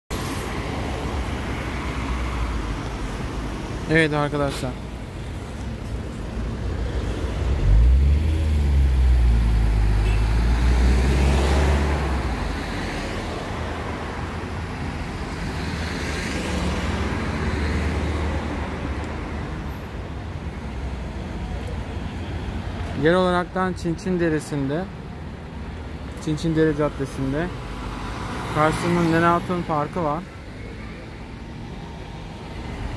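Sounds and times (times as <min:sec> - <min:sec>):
vehicles passing on road: 0:00.1 - 0:32.9.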